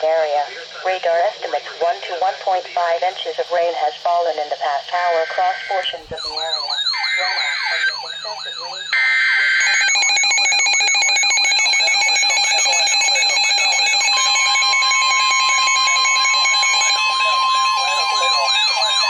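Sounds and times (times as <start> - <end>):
steady weather alert tone: 0.0 - 19.0.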